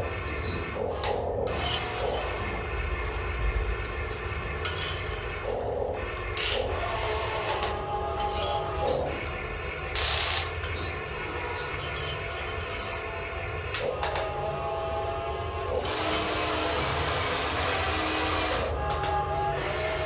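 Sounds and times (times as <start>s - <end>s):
toy excavator motors whirring: 0.0s - 2.6s, 3.2s - 20.0s.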